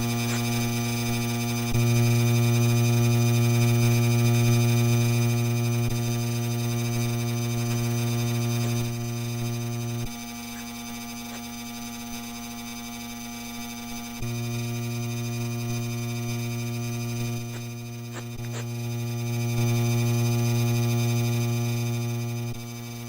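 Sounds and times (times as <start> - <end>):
ceiling fan electrical buzz: 0.0 - 23.0.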